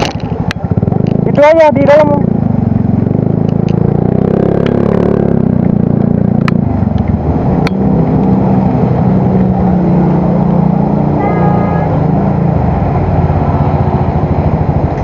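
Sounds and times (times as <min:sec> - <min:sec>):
scooter engine running: 0:00.0 - 0:15.0.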